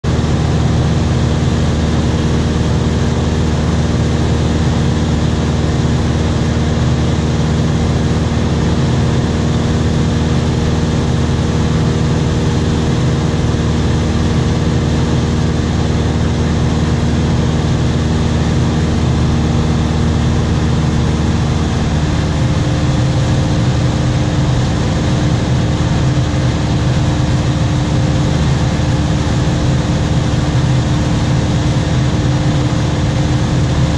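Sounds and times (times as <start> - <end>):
small aircraft engine drone: 0.0 - 33.9.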